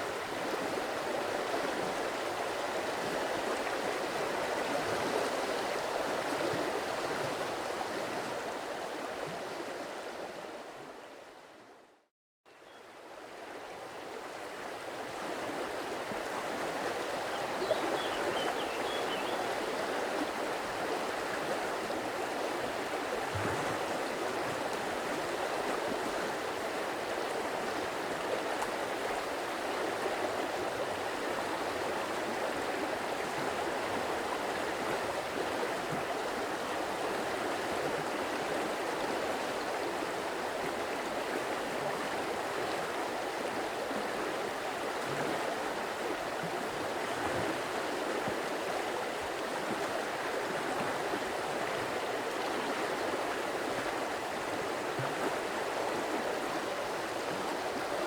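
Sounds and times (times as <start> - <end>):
stream flowing: 0.0 - 11.7, 12.5 - 58.0.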